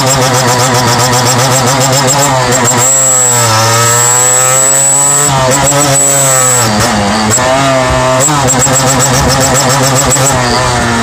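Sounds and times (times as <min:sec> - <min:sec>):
two-stroke engine revving: 0:00.0 - 0:11.0.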